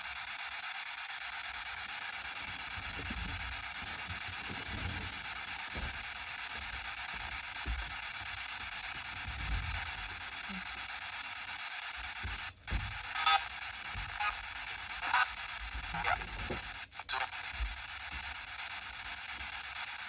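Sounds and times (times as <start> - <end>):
radio static hiss: 0.0 - 20.0
snatches of broadcast sound: 1.0 - 20.0.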